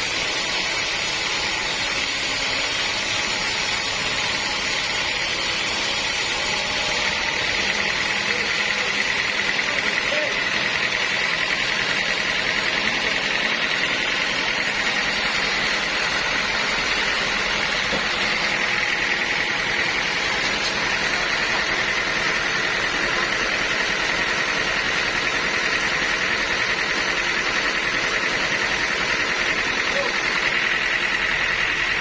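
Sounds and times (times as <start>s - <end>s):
low machine drone: 0.0s - 32.0s
sawmill saw whining: 0.0s - 32.0s.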